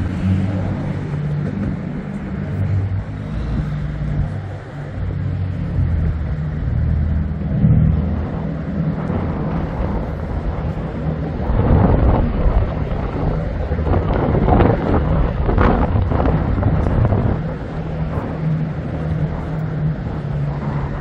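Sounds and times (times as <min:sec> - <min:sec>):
boat engine rumble: 0:00.0 - 0:21.0
wind buffeting microphone: 0:00.0 - 0:21.0.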